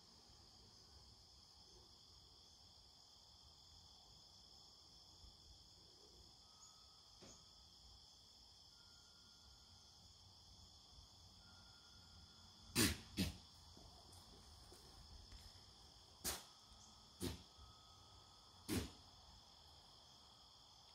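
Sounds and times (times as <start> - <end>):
crickets chirping: 0.0 - 20.9.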